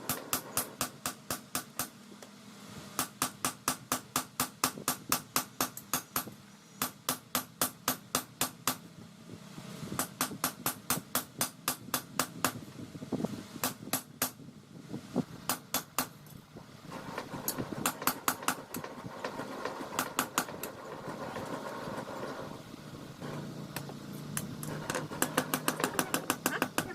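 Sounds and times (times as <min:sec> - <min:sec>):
steady motor hum: 0:00.0 - 0:26.9.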